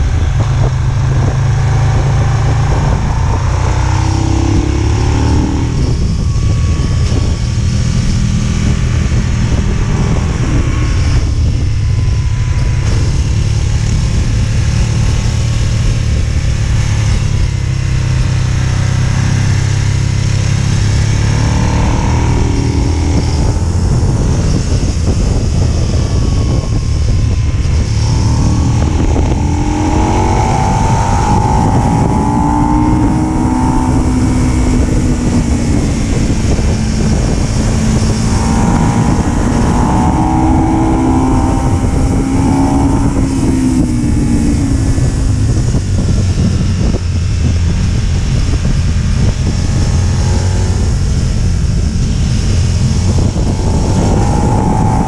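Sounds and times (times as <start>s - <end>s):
motorcycle engine revving: 0.0s - 55.0s
wind rushing: 0.0s - 55.0s.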